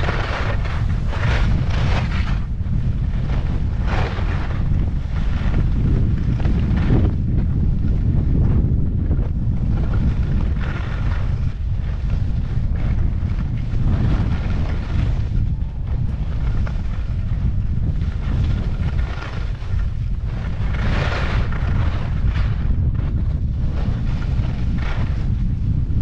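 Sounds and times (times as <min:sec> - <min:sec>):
skis scraping on snow: 0:00.0 - 0:26.0
wind rumbling on microphone: 0:00.0 - 0:26.0.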